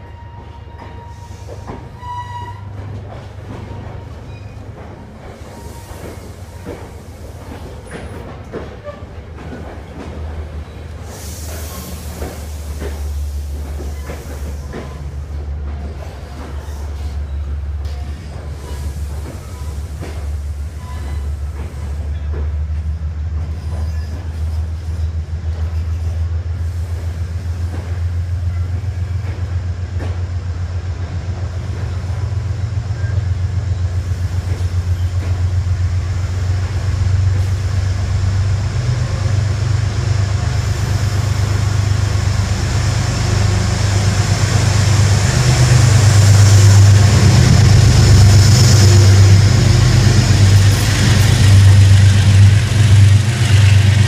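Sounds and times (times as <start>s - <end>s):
diesel locomotive drone: 0.0s - 54.0s
train coaches rolling past: 0.0s - 54.0s.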